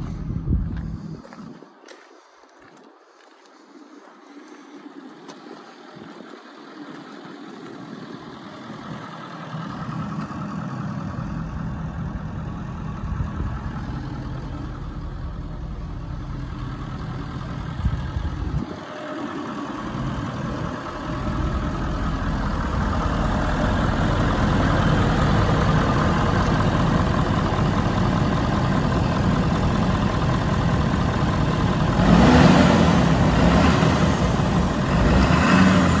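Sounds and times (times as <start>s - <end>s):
truck engine idling: 0.0s - 2.3s, 4.6s - 36.0s.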